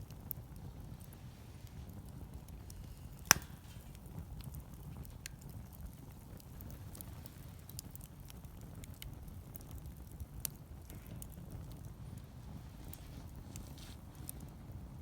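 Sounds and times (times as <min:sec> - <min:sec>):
sharp pops of fire: 0:00.0 - 0:15.0
wood fire crackling: 0:00.0 - 0:15.0.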